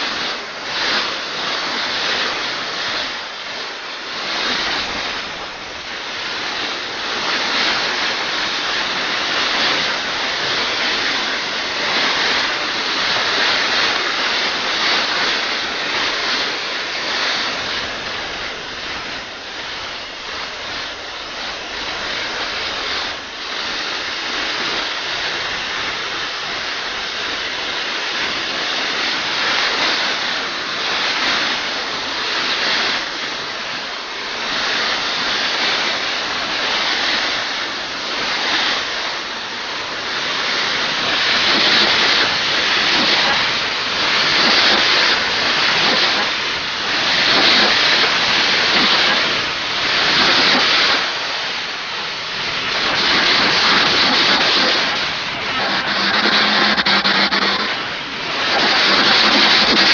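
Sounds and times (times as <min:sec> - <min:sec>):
rushing hiss: 0:00.0 - 0:59.9.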